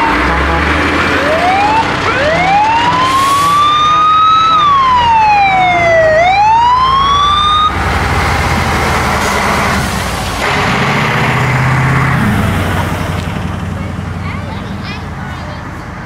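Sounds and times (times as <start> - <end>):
fire engine siren wailing: 0.0 - 13.1
heavy truck engines: 0.0 - 16.0.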